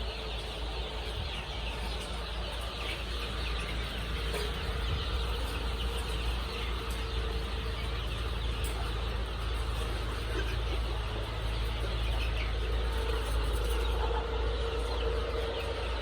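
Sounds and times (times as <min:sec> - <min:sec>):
chicks cheeping: 0:00.0 - 0:16.0.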